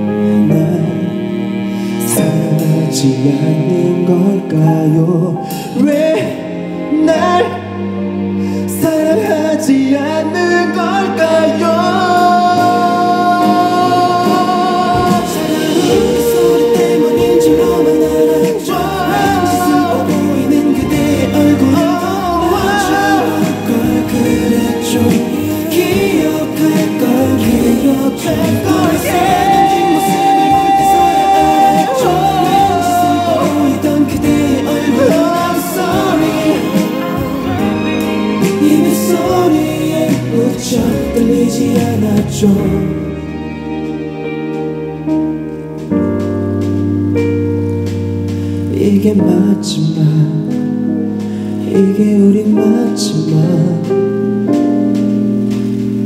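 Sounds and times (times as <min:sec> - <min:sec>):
man singing pop ballad: 0:00.0 - 0:01.4, 0:02.0 - 0:07.8, 0:08.6 - 0:43.1, 0:48.6 - 0:54.5
instrumental accompaniment: 0:00.0 - 0:56.0.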